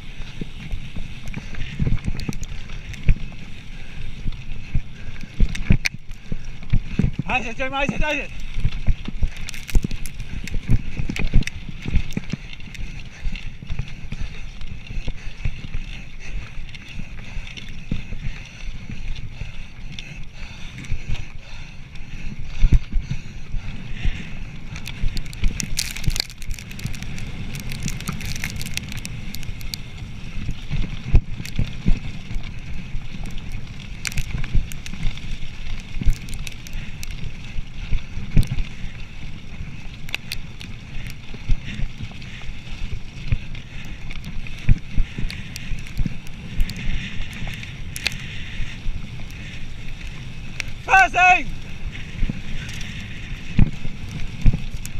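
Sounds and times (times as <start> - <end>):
bike rattling over bumps: 0.0 - 50.9, 51.5 - 54.9
bike tyres rumbling on trail: 0.0 - 54.9.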